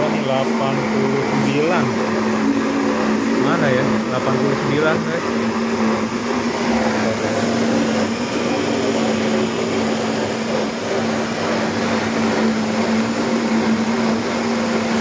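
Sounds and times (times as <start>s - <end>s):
electric blenders humming: 0.0s - 15.0s.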